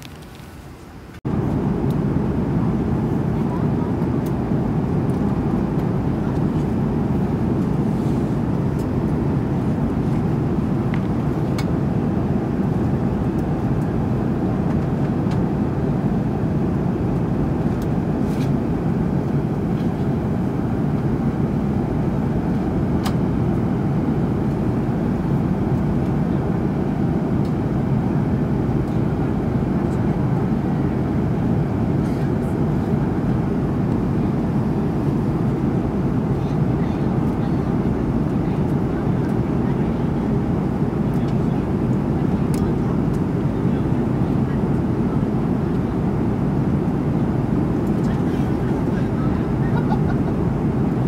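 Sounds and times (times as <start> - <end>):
airliner cabin drone: 0.0 - 51.0.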